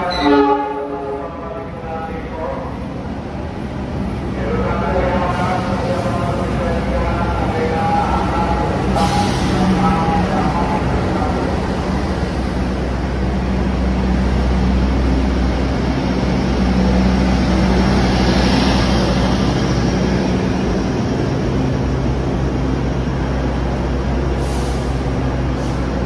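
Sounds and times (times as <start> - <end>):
diesel train hum: 0.0 - 26.0
wheel and rail rumble: 0.0 - 26.0.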